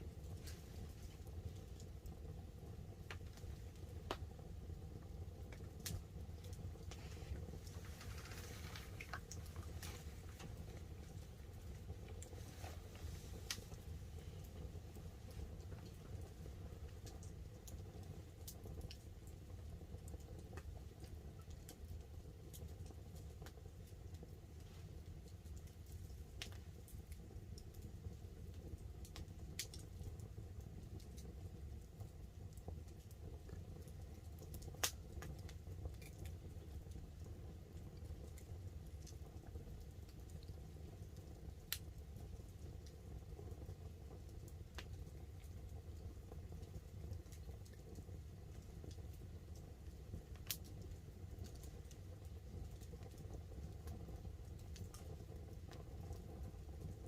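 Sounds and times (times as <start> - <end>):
campfire crackling and popping: 0.0 - 57.0
light rain pattering on a tarp: 0.0 - 57.0.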